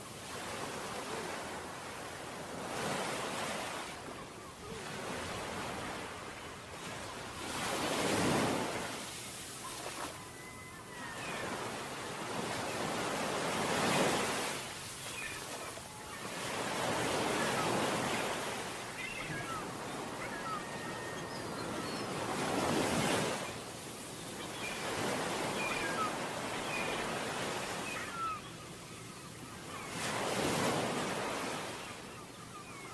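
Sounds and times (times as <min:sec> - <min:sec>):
sea waves breaking on beach: 0:00.0 - 0:28.5.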